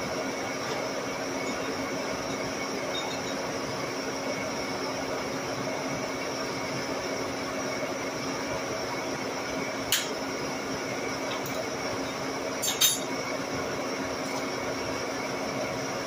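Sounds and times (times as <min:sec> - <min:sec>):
shop machinery whirring: 0:00.0 - 0:16.0.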